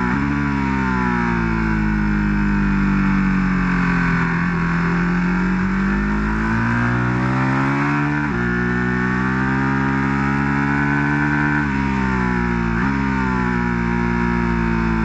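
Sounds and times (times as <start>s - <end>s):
motorcycle engine accelerating hard: 0.0s - 15.0s.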